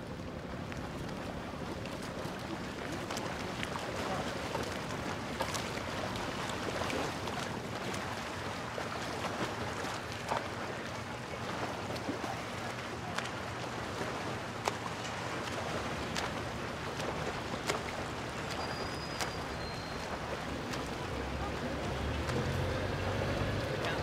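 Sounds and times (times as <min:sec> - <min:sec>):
boat engine hum: 0:00.0 - 0:24.0
faint distant voices: 0:01.2 - 0:24.0.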